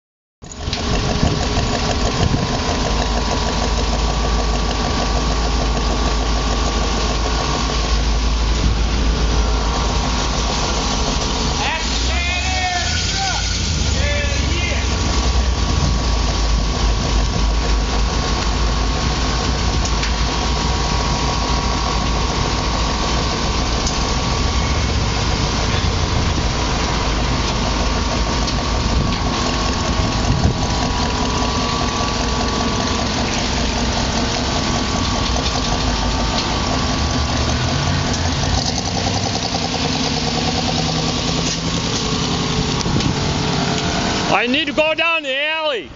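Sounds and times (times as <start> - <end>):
pickup truck engine idling: 0.4 - 45.9.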